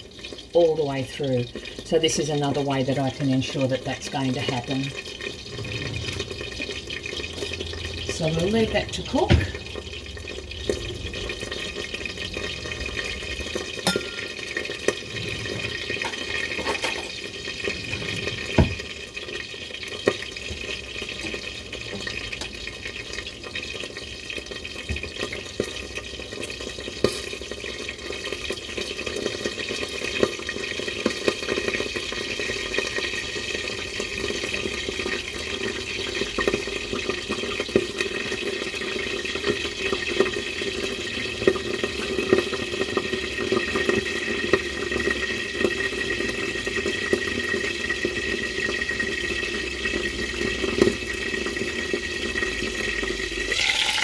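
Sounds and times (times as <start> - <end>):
patties sizzling in a pan: 0.0 - 54.0.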